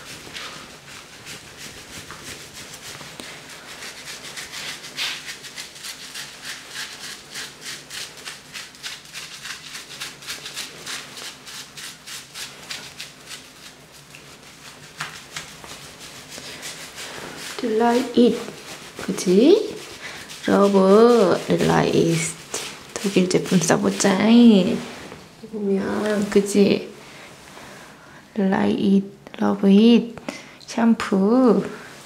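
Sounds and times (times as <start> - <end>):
hand rubbing lather into fur: 0.0 - 26.8.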